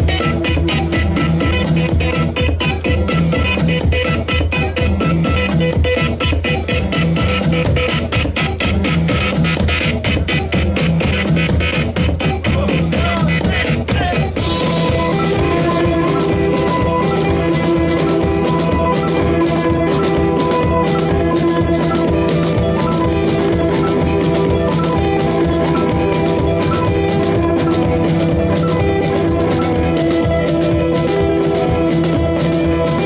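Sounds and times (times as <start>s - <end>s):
drum kit steady beat: 0.0s - 33.0s
electric guitars: 0.0s - 33.0s
synthesizer keyboards: 0.0s - 33.0s.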